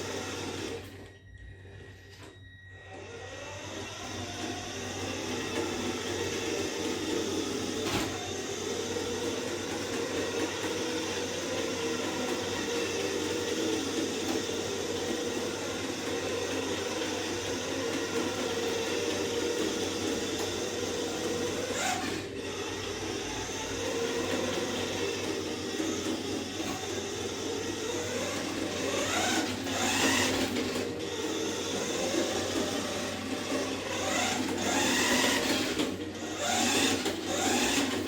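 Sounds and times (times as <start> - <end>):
toy car motor whirring: 0.0 - 1.1, 2.8 - 38.0.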